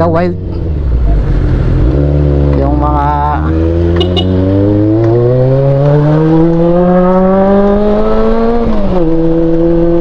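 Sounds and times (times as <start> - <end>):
motorcycle engine accelerating: 0.5 - 10.0.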